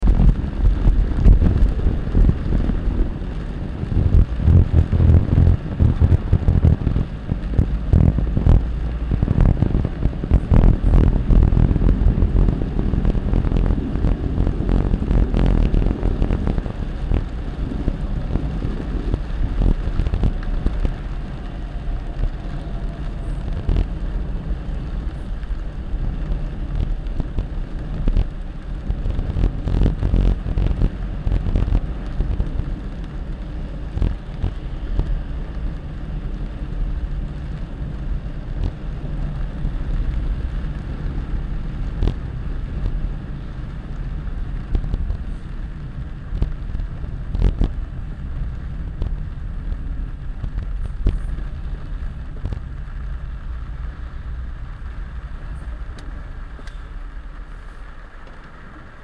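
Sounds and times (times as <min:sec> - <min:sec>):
rain: 0:00.0 - 0:59.0
wind buffeting microphone: 0:00.0 - 0:59.0.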